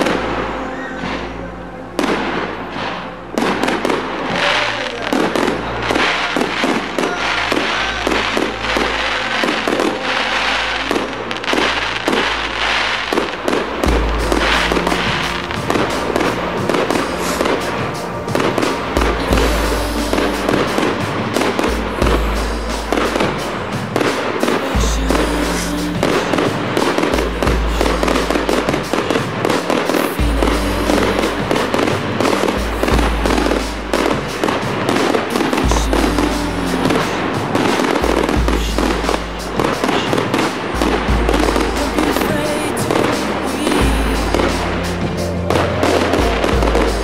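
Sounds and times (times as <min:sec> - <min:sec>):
fireworks bangs and crackles: 0:00.0 - 0:47.0
music playing: 0:00.0 - 0:47.0.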